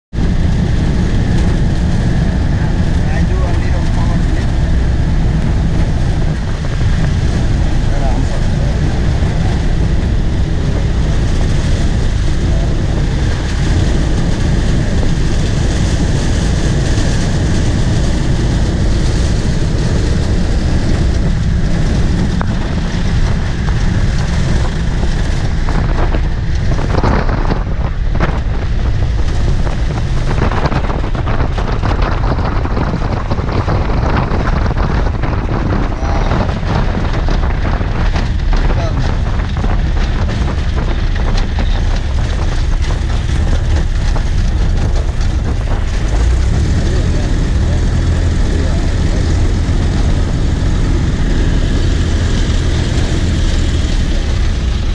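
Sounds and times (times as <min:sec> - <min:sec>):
aircraft engine at low power: 0:00.0 - 0:54.9
wind noise on microphone: 0:00.0 - 0:54.9
wheels knocking and rattling on grass: 0:00.1 - 0:54.9.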